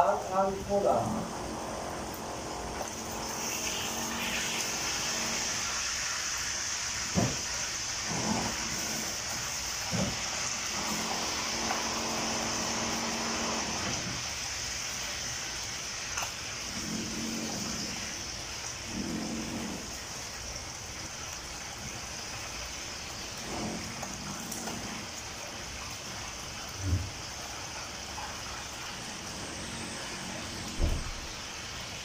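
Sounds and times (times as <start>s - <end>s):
chicken sizzling in frying pan: 0.0s - 19.1s, 19.7s - 32.0s.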